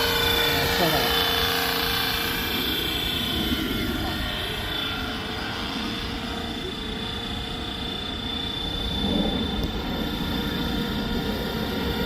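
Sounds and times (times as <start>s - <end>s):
model helicopter whining: 0.0s - 12.0s.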